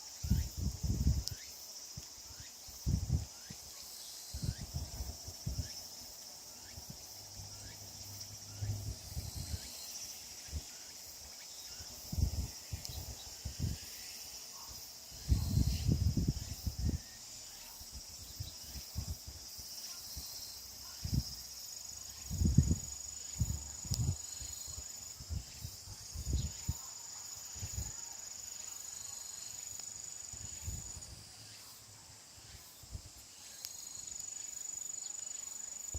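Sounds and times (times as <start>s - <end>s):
high-pitched insect chorus: 0.0s - 35.9s.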